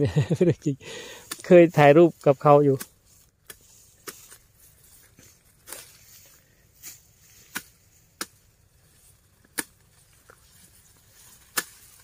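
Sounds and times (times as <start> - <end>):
hand blade chopping grass stalks: 1.2 - 12.0.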